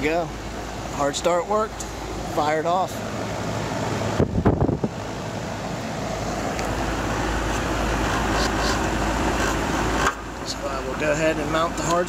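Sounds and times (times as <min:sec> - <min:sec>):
compressor humming low: 0:00.0 - 0:12.0
condenser fan rushing: 0:00.0 - 0:12.0.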